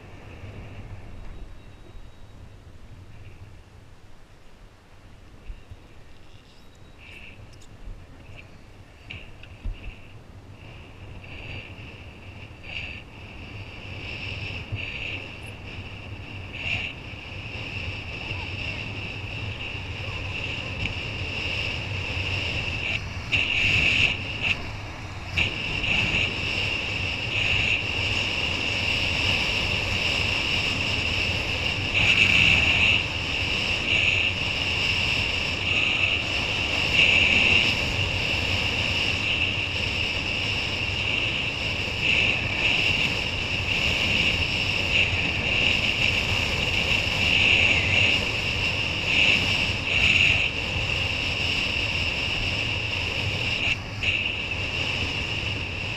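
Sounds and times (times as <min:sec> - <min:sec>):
wind buffeting microphone: 0:05.2 - 0:55.9.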